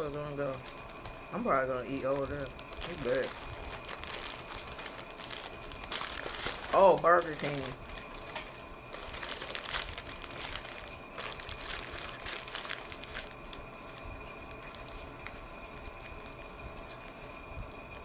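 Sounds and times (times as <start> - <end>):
wrapper crinkling: 0.0 - 18.0.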